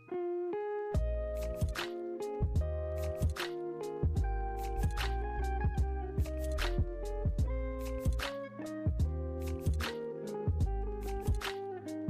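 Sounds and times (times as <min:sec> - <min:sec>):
plucked melody with light beat: 0:00.0 - 0:12.0.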